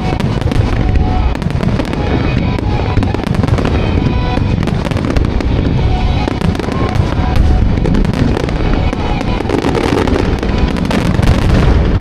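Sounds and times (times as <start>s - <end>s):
fireworks bursts rumbling: 0.0s - 12.0s
fireworks crackling: 0.0s - 12.0s.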